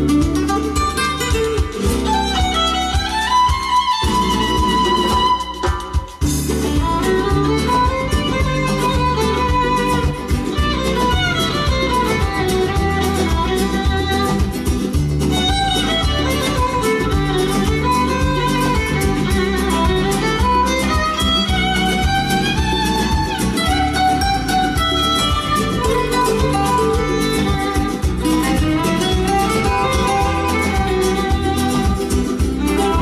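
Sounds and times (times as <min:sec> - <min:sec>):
music with sliding melodic lead: 0:00.0 - 0:33.0.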